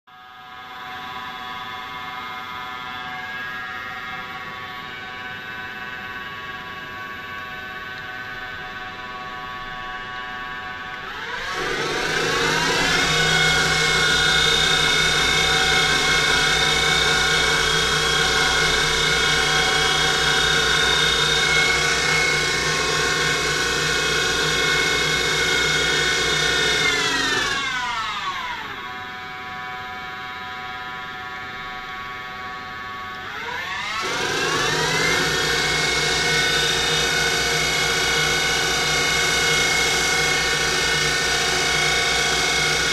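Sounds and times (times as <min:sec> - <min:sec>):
mill spindle whining: 0:00.8 - 0:42.9.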